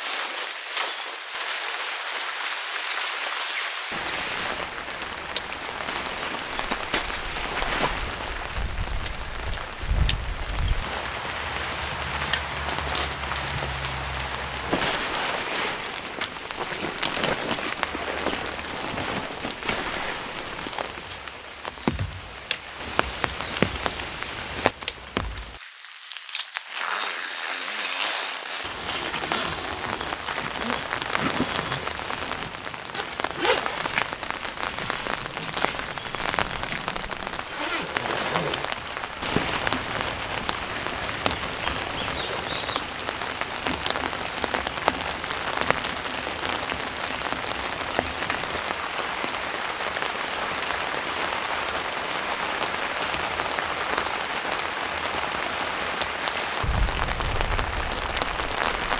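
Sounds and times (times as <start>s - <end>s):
heavy rain pouring: 0.0s - 25.6s, 28.6s - 58.9s
raindrops striking nearby: 0.0s - 26.6s, 28.6s - 58.9s.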